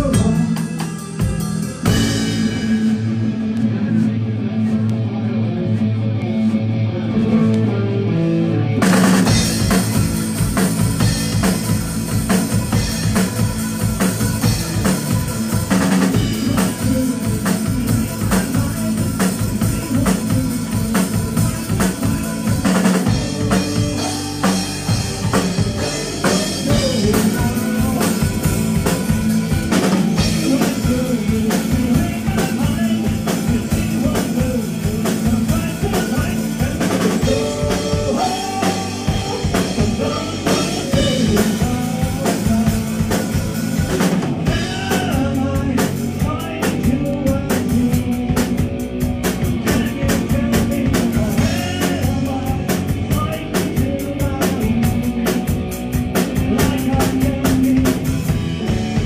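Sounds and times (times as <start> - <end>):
drumming: 0.0 - 4.2, 8.8 - 59.0
rock band playing: 0.0 - 59.0.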